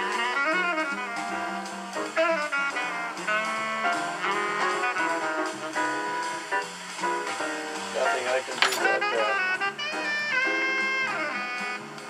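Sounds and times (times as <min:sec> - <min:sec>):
jazz on radio: 0:00.0 - 0:12.0.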